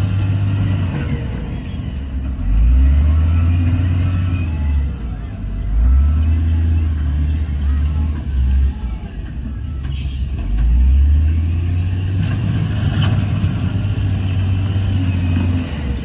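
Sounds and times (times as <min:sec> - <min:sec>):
diesel machine engine drone: 0:00.0 - 0:16.0.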